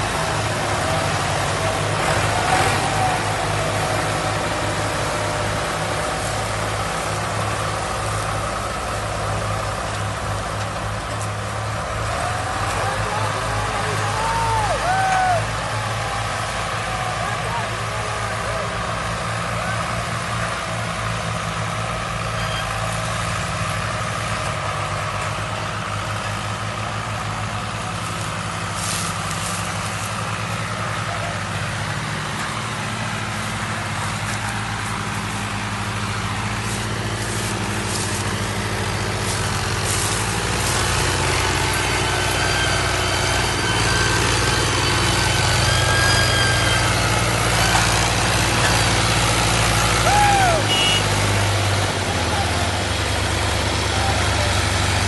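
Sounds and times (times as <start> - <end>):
large engine running steadily: 0.0 - 55.0.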